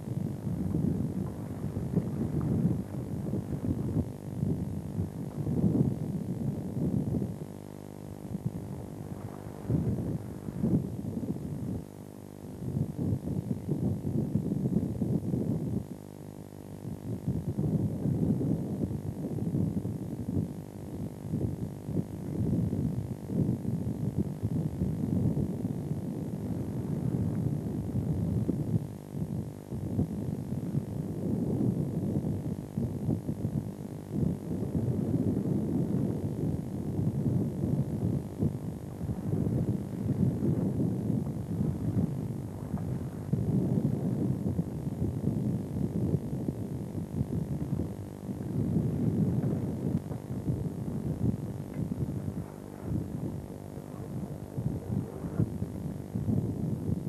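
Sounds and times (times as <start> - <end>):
boat engine low hum: 0.0 - 57.0.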